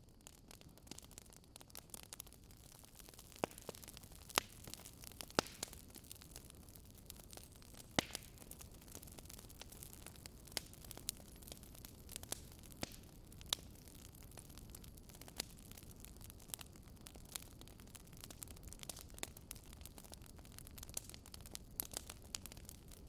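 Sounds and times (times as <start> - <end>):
fireplace fire crackling: 0.0 - 23.0.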